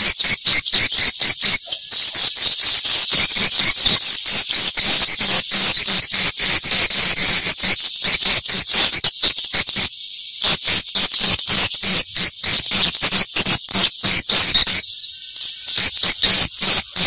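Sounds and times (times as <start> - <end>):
swiftlets twittering: 0.0 - 17.0.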